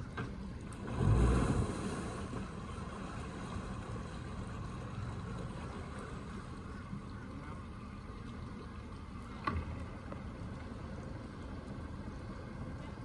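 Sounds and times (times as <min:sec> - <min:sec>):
outboard motor humming: 0:00.0 - 0:13.0.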